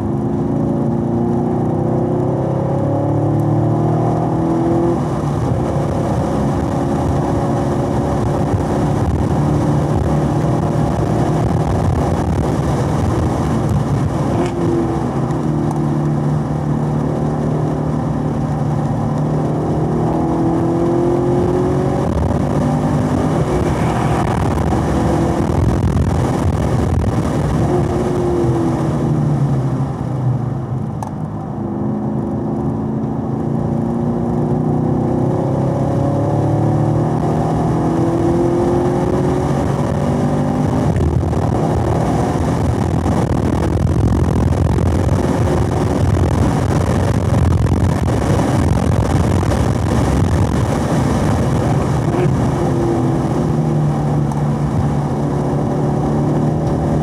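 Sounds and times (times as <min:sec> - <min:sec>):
car engine revving at speed: 0:00.0 - 0:57.0.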